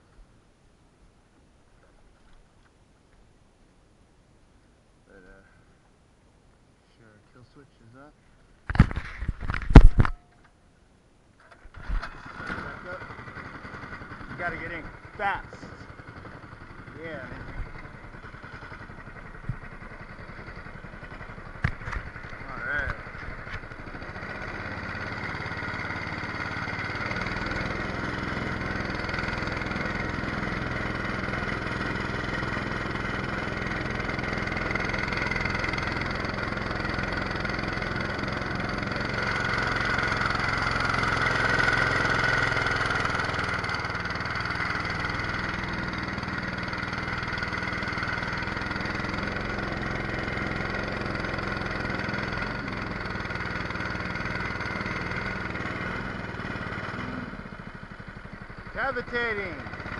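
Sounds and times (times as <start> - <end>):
small engine running steadily: 8.7 - 10.4, 11.4 - 59.9.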